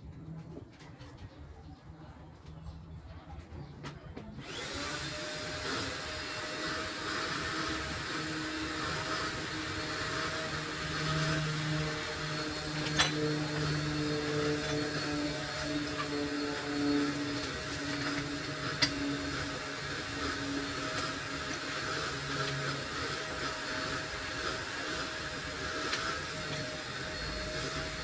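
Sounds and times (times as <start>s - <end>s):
small electric motor whirring: 4.4s - 28.0s.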